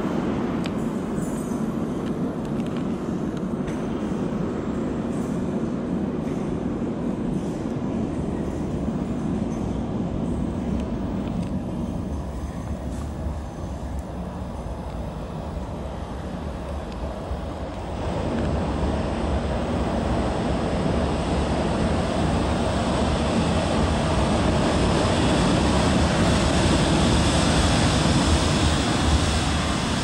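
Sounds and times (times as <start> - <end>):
train rumbling through station: 0.0 - 30.0.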